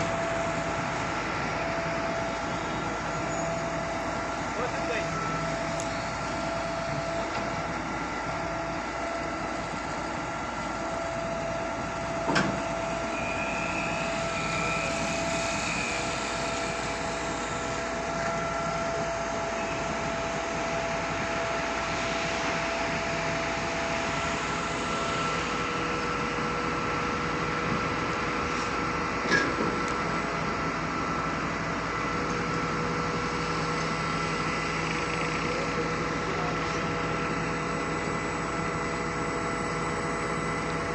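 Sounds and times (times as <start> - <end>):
concrete pump droning: 0.0 - 40.9.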